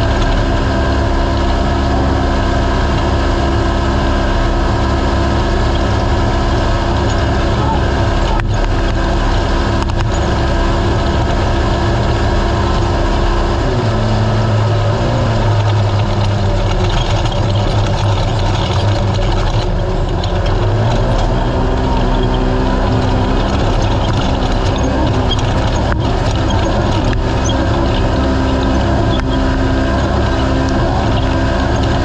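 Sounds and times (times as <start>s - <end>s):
vehicle engine running hard: 0.0s - 32.0s
vehicle moving over rough ground: 0.0s - 32.0s.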